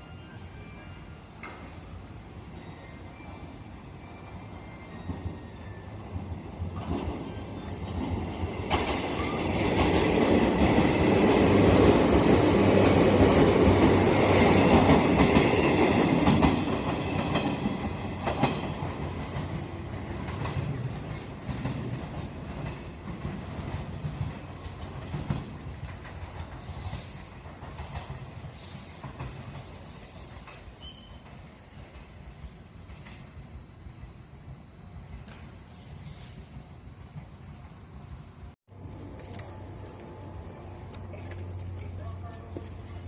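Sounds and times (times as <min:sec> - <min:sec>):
electric train passing: 0:00.0 - 0:43.0.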